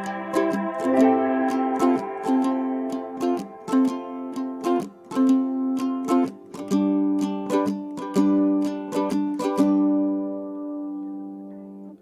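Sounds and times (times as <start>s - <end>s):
strummed string instrument chords: 0.0s - 12.0s.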